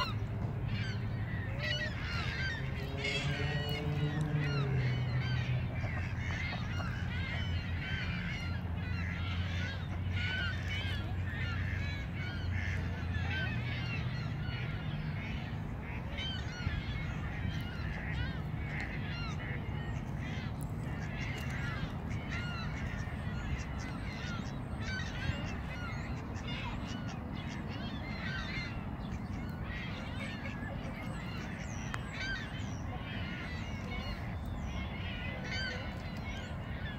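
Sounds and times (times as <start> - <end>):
geese honking: 0.0 - 36.9.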